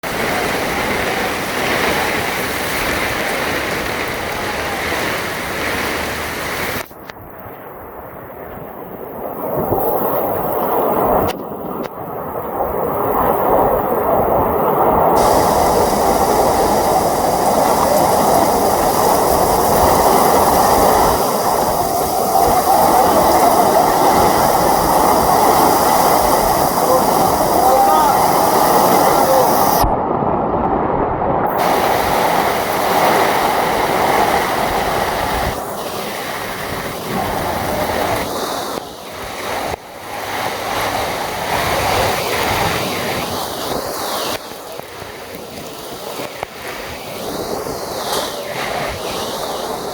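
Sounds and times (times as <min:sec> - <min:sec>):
heavy rain pouring: 0:00.0 - 0:07.0, 0:09.3 - 0:49.9.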